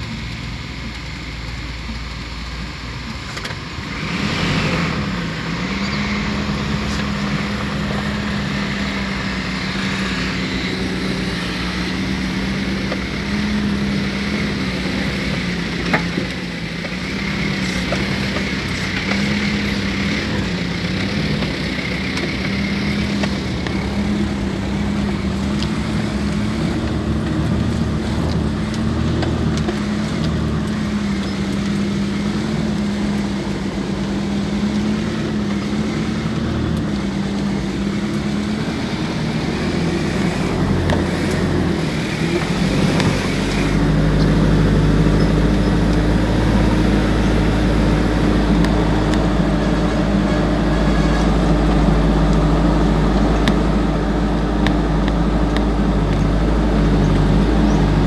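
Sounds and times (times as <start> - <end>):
rumble of rough dirt road: 0.0 - 58.0
vehicle engine running: 0.0 - 58.0.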